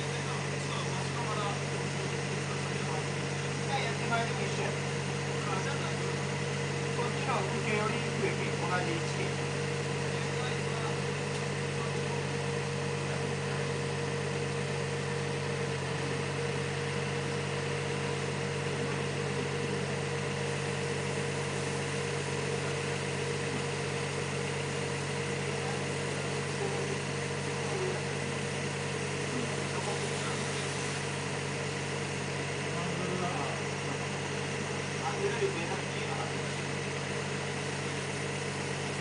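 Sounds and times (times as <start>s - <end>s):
machinery drone: 0.0s - 39.0s.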